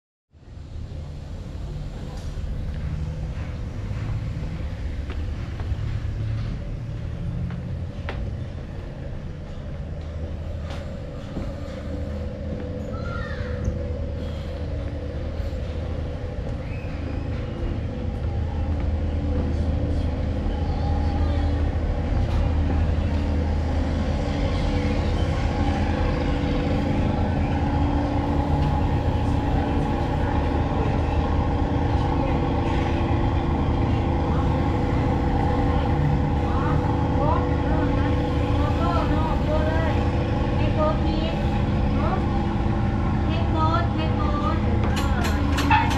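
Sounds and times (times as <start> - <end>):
engine humming: 0.5 - 45.9.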